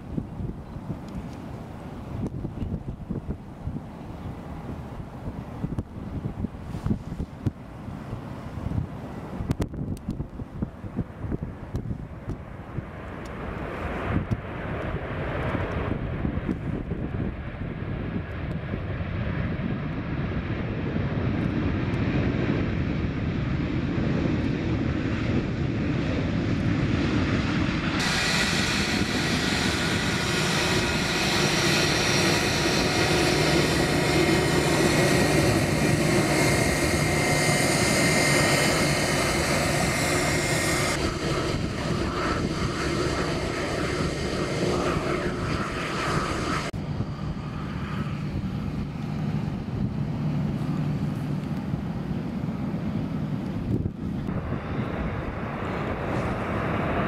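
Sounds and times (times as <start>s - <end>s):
high jet engine whine: 0.0s - 57.0s
jet engine rumble: 0.0s - 57.0s.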